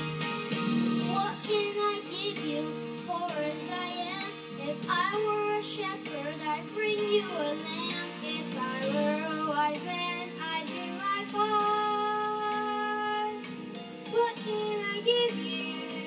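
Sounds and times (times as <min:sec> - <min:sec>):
accompanying music: 0:00.0 - 0:16.0
child singing into microphone: 0:01.1 - 0:13.4, 0:14.1 - 0:16.0.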